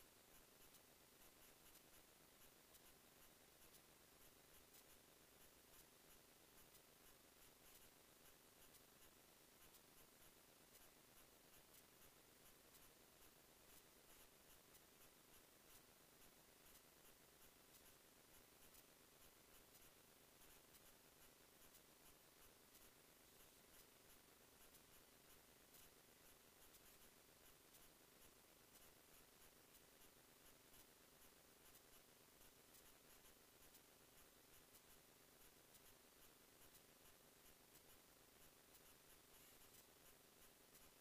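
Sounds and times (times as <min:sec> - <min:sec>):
faint hiss: 0:00.0 - 0:41.0
light irregular ticks: 0:00.0 - 0:41.0.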